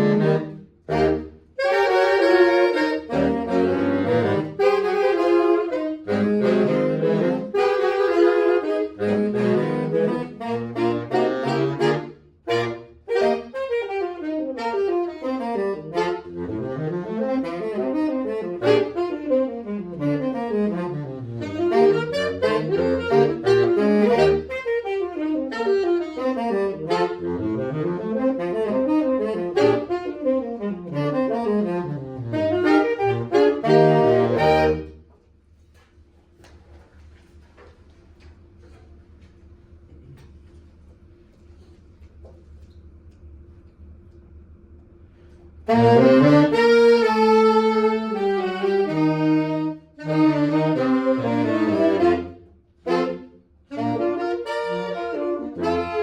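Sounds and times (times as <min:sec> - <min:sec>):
saxophone quartet playing: 0:00.0 - 0:35.9, 0:45.2 - 0:56.0.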